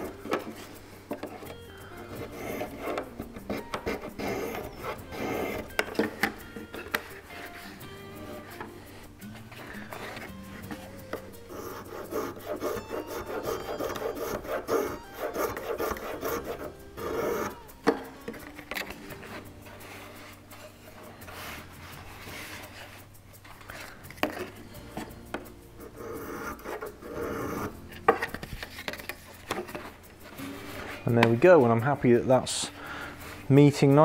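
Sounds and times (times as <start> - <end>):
wood rubbing and scraping: 0.0 - 34.0.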